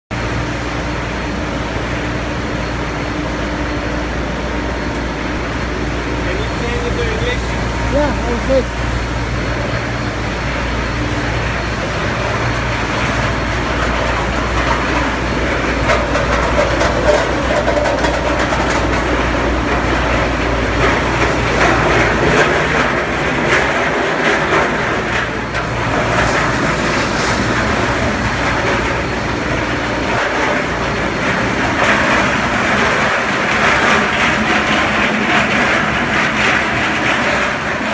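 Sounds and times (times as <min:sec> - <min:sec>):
low hum: 0:00.1 - 0:37.9
production line machinery running: 0:00.1 - 0:37.9.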